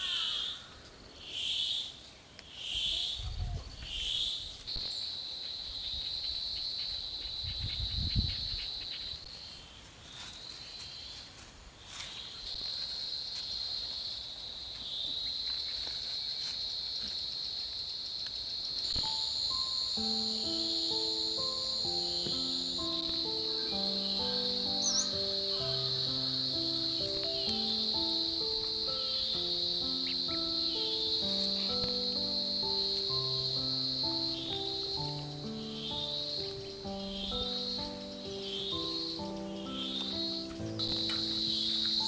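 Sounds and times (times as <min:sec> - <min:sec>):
insects calling drone: 0:00.0 - 0:09.8, 0:12.2 - 0:42.0.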